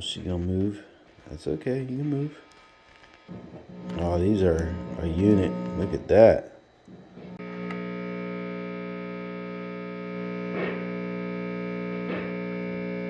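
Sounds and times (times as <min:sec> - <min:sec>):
faint crackles: 0:00.0 - 0:13.0
guitar amplifier distorted buzz: 0:00.0 - 0:13.0.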